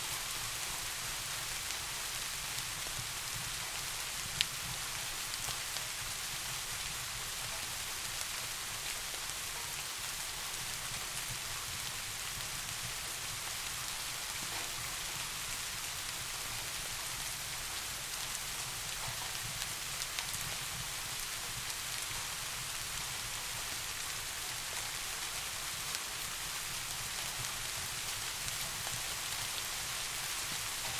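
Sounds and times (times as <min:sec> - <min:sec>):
soft rain hiss: 0:00.0 - 0:30.9.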